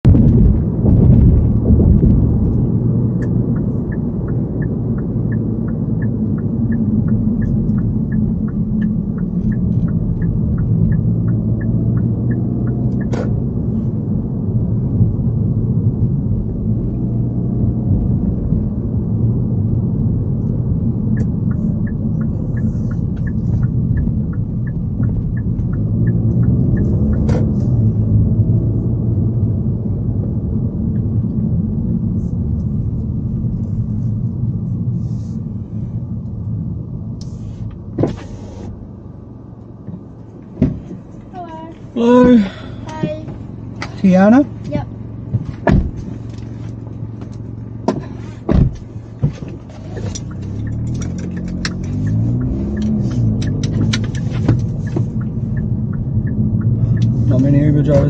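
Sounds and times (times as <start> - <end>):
car engine and tyre rumble: 0.0 - 58.0
turn indicator ticking: 1.5 - 34.9, 39.6 - 58.0.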